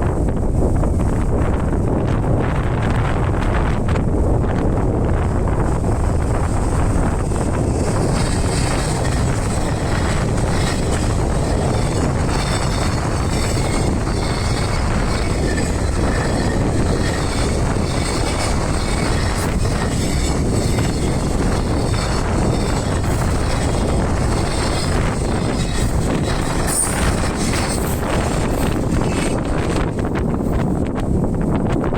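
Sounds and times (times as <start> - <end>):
train rolling past: 0.0 - 31.9.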